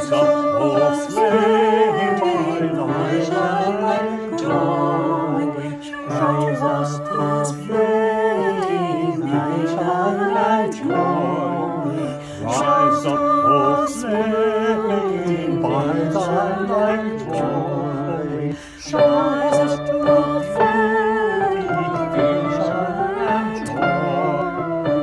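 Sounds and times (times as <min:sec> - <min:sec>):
choir singing unaccompanied: 0:00.0 - 0:25.0.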